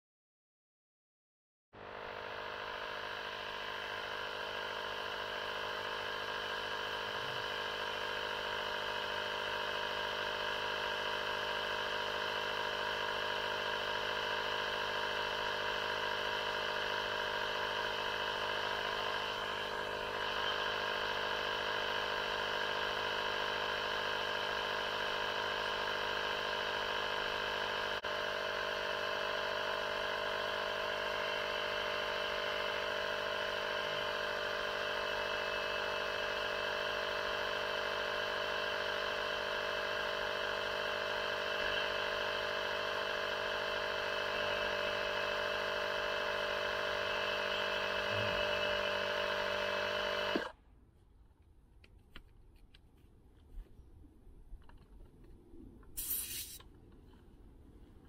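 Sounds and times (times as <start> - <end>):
air compressor running: 1.8 - 50.6, 56.0 - 56.6.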